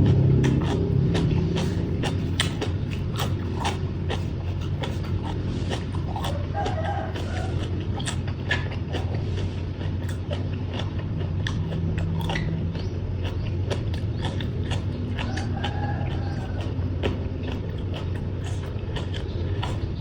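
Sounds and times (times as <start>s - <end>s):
steady low hum: 0.0s - 20.0s
wet chewing and crunching: 0.0s - 20.0s.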